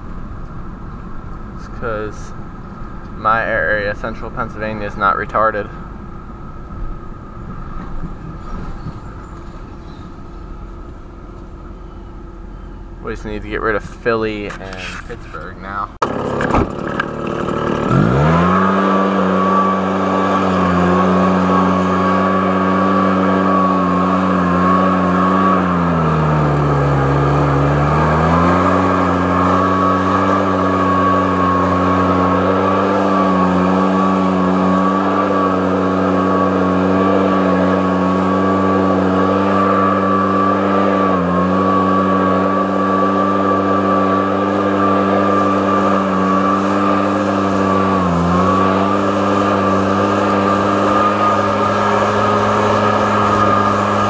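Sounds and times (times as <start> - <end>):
engine running steadily: 0.0 - 54.0
high whine: 0.0 - 54.0.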